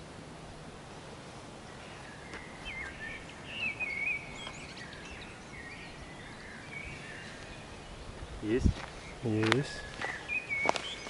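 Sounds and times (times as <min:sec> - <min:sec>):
faint outdoor ambience: 0:00.0 - 0:11.0
songbird singing: 0:01.1 - 0:11.0.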